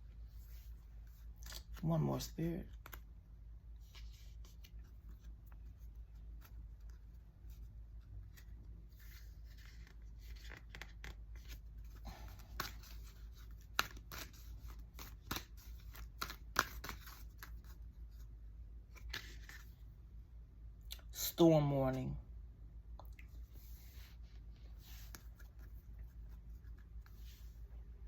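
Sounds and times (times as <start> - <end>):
low steady hum: 0.0 - 28.0
cards shuffling and rustling: 0.2 - 3.1, 3.8 - 19.8, 23.4 - 27.6.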